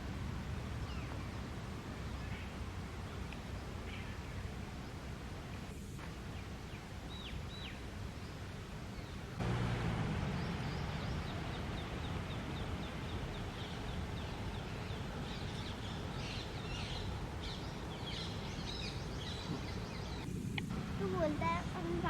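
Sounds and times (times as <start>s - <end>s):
background hum: 0.0s - 22.0s.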